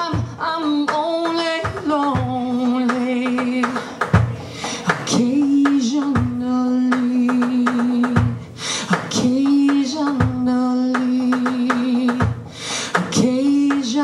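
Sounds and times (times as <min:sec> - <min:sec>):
drum and cymbal hits: 0:01.2 - 0:14.0.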